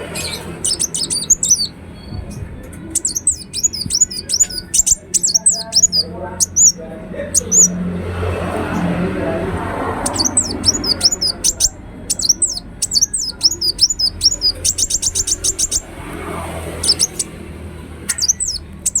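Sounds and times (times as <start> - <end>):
bird chirping high and sharp: 0.0 - 7.8, 10.0 - 16.0, 16.6 - 17.4, 18.0 - 19.0.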